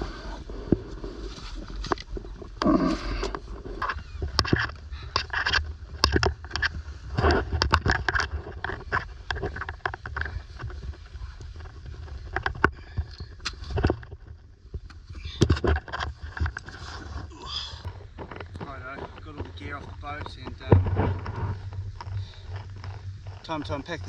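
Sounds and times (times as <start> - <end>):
camping gear clattering: 0.0 - 24.0
low steady rumble: 0.0 - 24.0.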